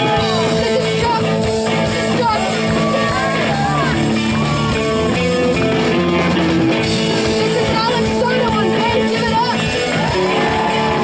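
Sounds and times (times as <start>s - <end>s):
electric guitar bending notes: 0.0s - 11.0s
live rock band: 0.0s - 11.0s.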